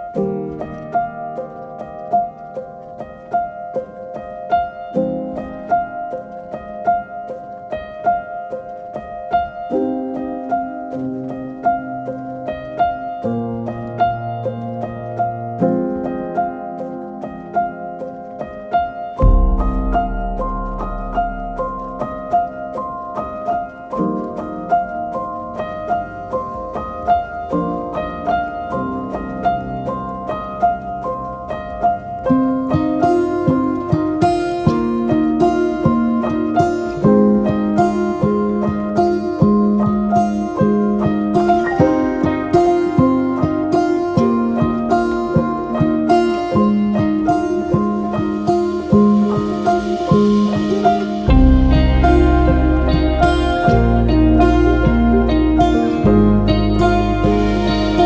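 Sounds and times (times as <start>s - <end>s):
gentle piano tune: 0.0s - 58.0s.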